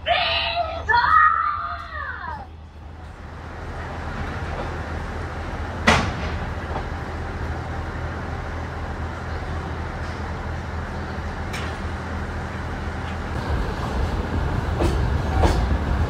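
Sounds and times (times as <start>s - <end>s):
diesel railcar idling hum: 0.0s - 16.0s.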